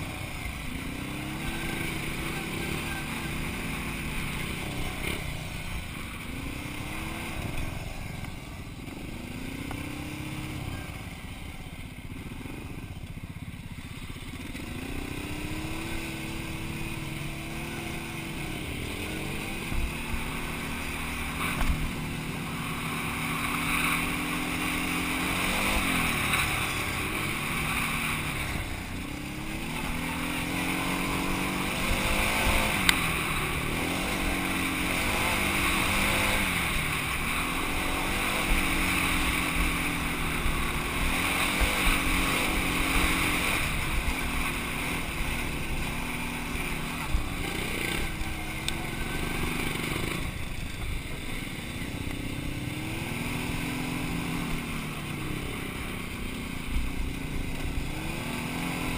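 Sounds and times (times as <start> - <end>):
quad bike engine revving: 0.0 - 58.9.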